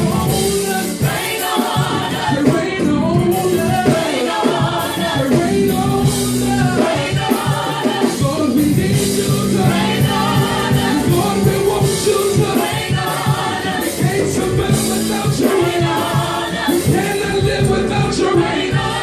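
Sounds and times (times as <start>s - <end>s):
gospel band with drums: 0.0s - 19.0s
sustained singing: 0.0s - 19.0s.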